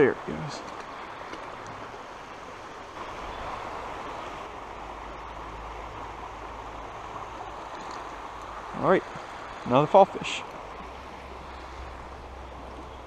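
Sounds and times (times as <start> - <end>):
river water flowing over rocks: 0.0 - 13.0.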